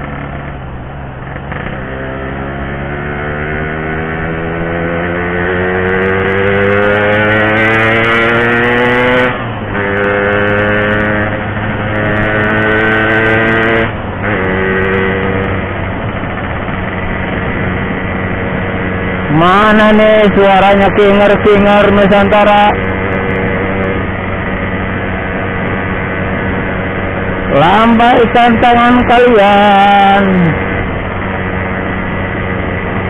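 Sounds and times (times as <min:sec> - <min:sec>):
two-stroke motorcycle engine accelerating: 0:00.0 - 0:33.0.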